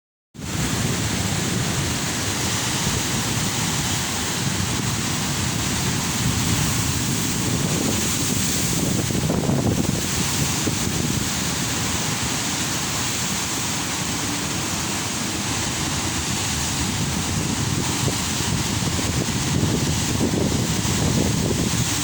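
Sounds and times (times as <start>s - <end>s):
ocean surf breaking: 0.4s - 22.0s
wind buffeting microphone: 0.4s - 22.0s.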